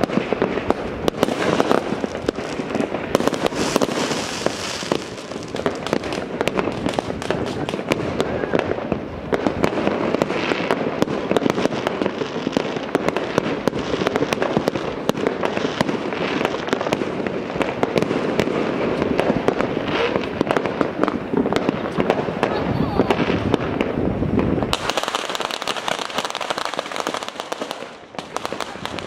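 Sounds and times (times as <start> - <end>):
fireworks and firecrackers popping: 0.0 - 29.0.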